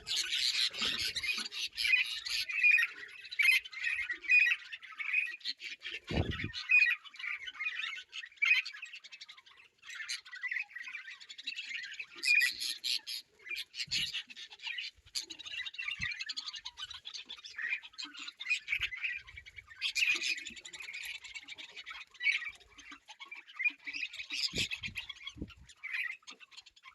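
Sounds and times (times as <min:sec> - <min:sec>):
birds squawking and chirping: 0:00.0 - 0:26.9.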